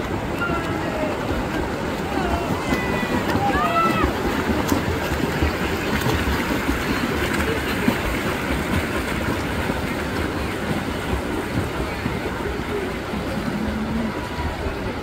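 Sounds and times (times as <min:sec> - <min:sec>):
swimmers splashing water: 0:00.0 - 0:15.0.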